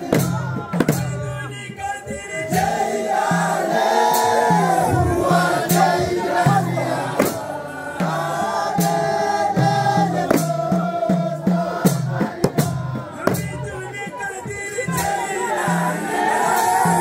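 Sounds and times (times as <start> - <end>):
men chanting in unison: 0.0 - 17.0
sharp percussive hits: 0.0 - 17.0.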